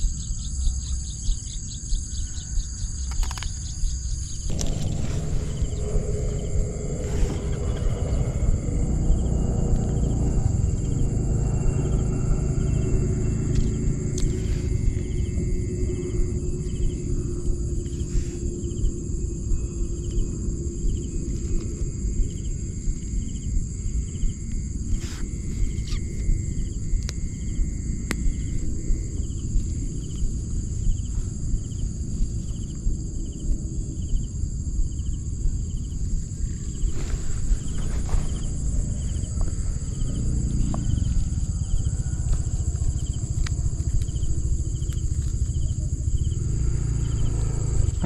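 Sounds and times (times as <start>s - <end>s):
insects singing chorus: 0.0s - 48.0s
low rumbling noise: 3.7s - 48.0s.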